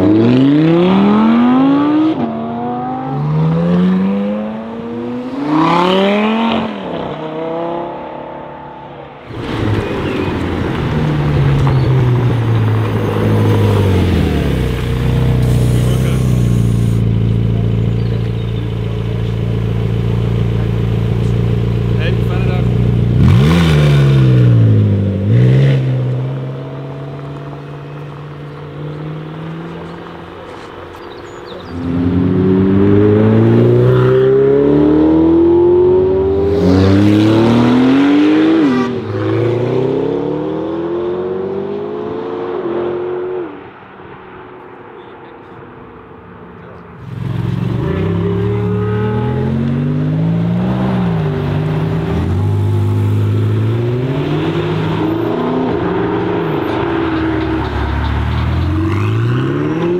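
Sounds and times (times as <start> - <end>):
car engines revving and accelerating: 0.0 - 59.9.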